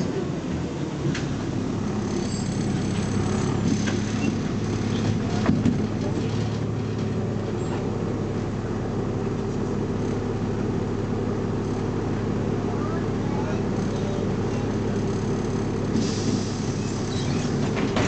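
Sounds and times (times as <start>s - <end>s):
bus engine humming: 0.0s - 18.0s.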